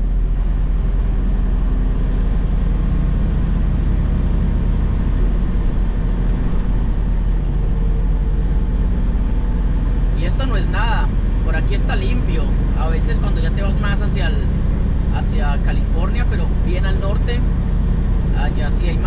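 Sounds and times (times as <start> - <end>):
road noise: 0.0 - 19.0
truck diesel engine running: 0.0 - 19.0.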